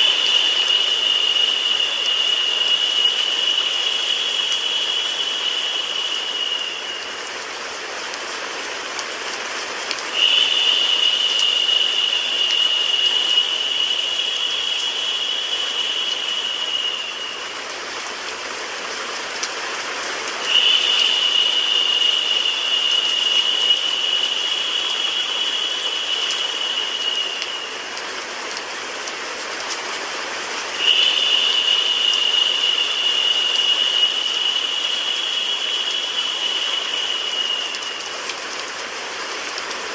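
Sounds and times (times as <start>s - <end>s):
high-pitched hiss: 0.0s - 8.8s, 10.1s - 39.9s
rain with white noise hiss: 0.0s - 39.9s.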